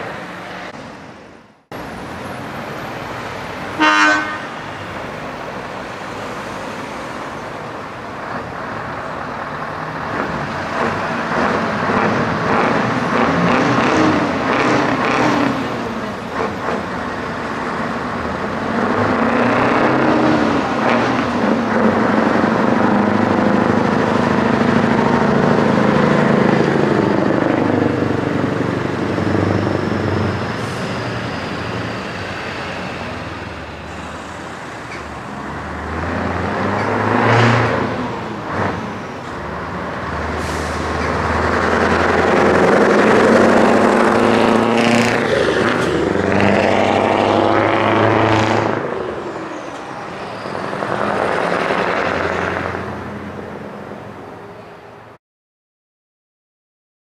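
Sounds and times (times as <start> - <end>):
diesel truck engine accelerating: 4.7 - 54.4.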